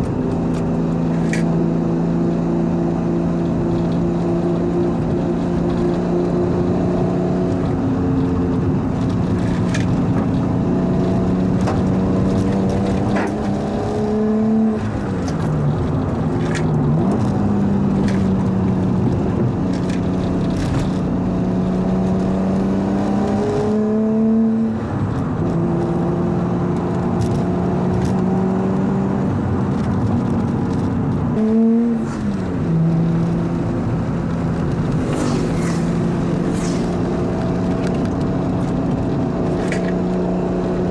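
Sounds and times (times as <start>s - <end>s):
car engine cruising and revving: 0.0s - 40.9s.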